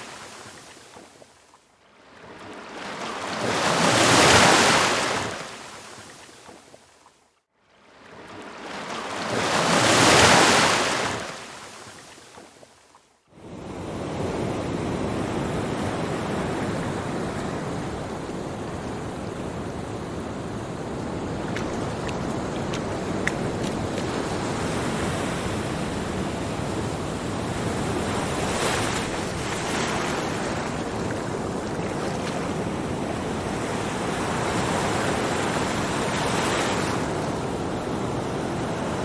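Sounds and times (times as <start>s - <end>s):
surf washing: 0.0s - 1.0s, 2.3s - 6.5s, 8.3s - 12.4s, 13.7s - 39.0s
ocean waves: 0.0s - 6.8s, 7.8s - 12.7s, 13.4s - 39.0s.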